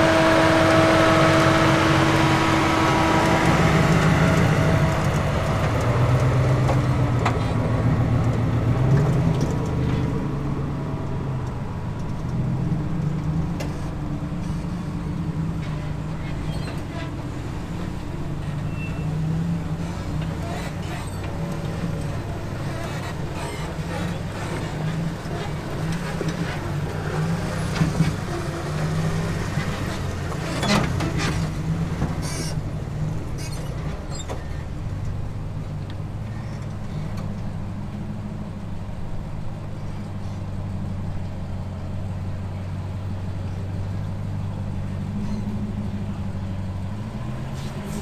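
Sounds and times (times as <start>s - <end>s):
car engine running at low revs: 0.0s - 48.0s.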